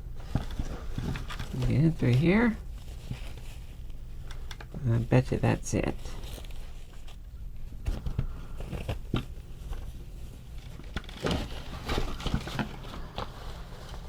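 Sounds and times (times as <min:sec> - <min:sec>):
hands handling novelty hat: 0:00.0 - 0:14.0.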